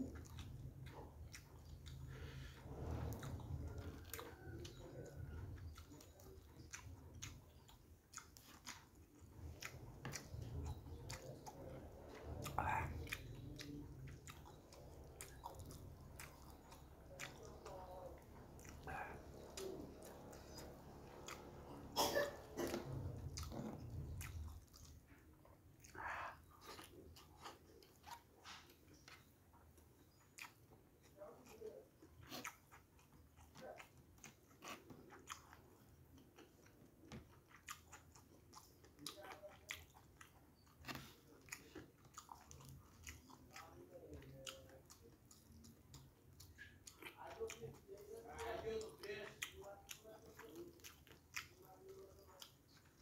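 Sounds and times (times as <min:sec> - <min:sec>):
chewing and smacking mouth sounds: 0:00.0 - 0:53.0.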